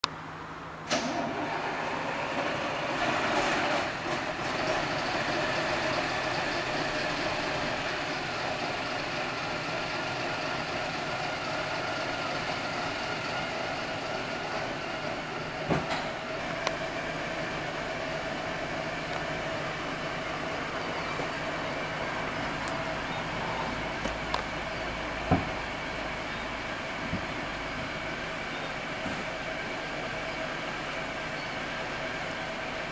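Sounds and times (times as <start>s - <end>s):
bus diesel engine running: 0.0s - 32.9s.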